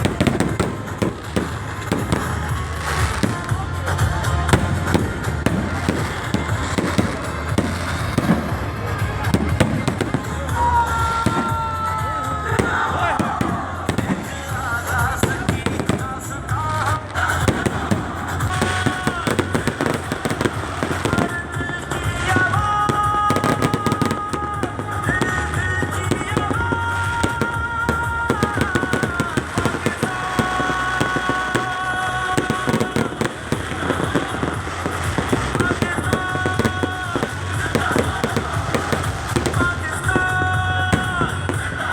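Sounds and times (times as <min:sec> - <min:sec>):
fireworks bangs and crackles: 0:00.0 - 0:41.9
loud music with singing: 0:00.0 - 0:41.9.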